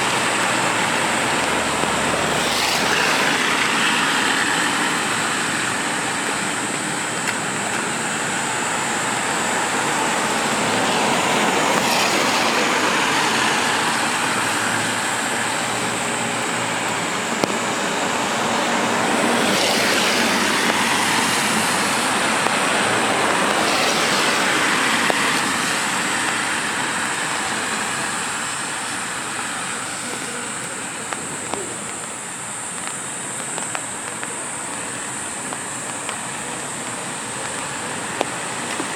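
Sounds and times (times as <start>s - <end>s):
cars passing on wet street: 0.0s - 38.9s
rain hiss: 0.0s - 38.9s.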